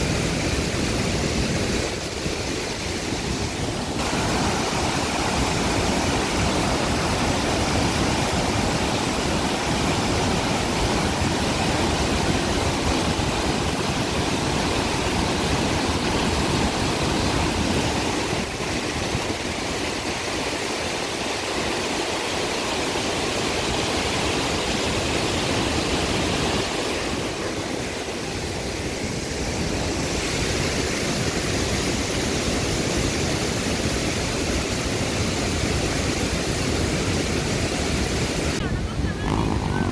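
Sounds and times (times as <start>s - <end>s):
water rushing through dam spillway: 0.0s - 39.9s.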